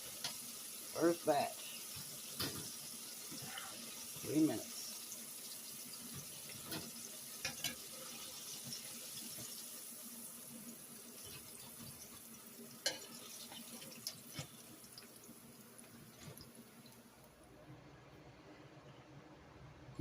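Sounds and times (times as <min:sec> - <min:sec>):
shrimp sizzling in hot oil: 0:00.0 - 0:17.1.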